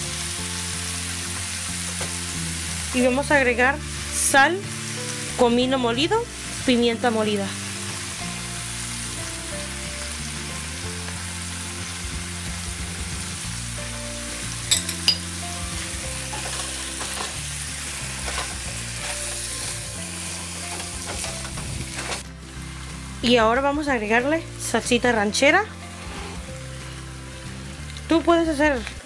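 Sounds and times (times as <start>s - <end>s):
shrimp sizzling in oil: 0.0s - 29.0s.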